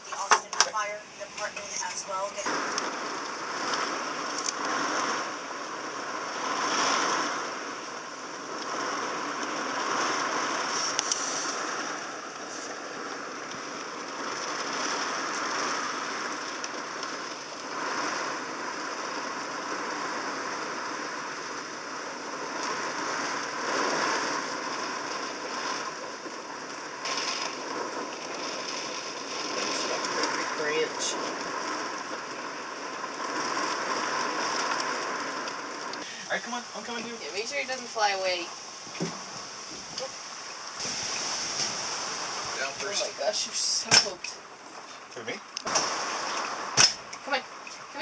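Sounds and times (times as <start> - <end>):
heavy rain pouring: 0.0 - 48.0
strong wind gusts: 0.0 - 48.0.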